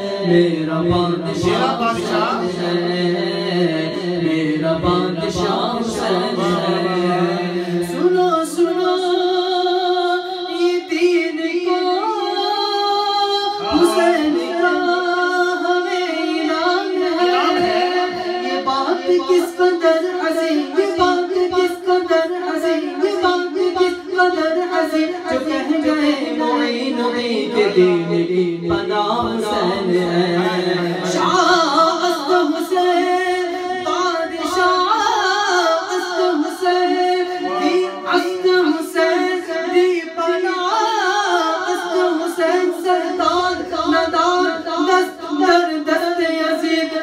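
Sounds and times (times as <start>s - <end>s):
man singing unaccompanied: 0.0s - 47.0s.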